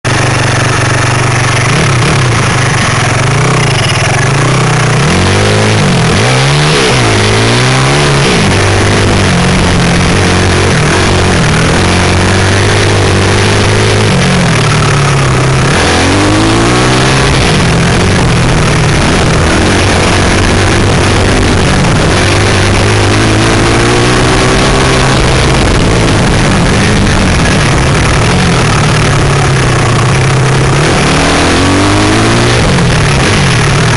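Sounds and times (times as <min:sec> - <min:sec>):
pit bike engine revving: 0:00.1 - 0:33.9.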